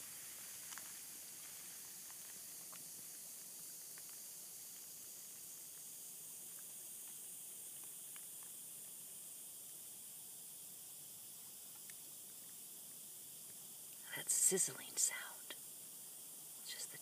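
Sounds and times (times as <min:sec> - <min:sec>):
river water sizzling: 0:00.0 - 0:17.0
tiny ticks of silt: 0:00.0 - 0:17.0.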